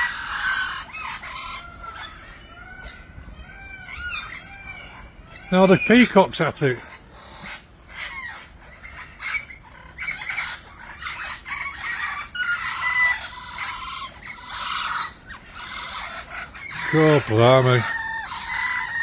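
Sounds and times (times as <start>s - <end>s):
budgerigars chattering and squawking: 0.0s - 19.0s.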